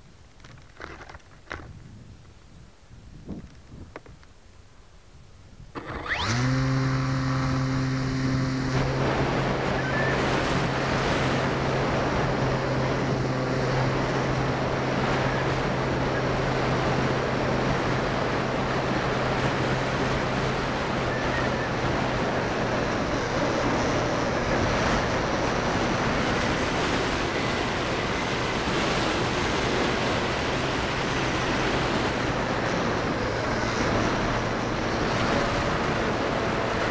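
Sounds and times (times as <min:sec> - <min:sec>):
wind rush on microphone: 0:00.1 - 0:04.4, 0:05.0 - 0:36.9
model plane motor and propeller: 0:05.8 - 0:36.9.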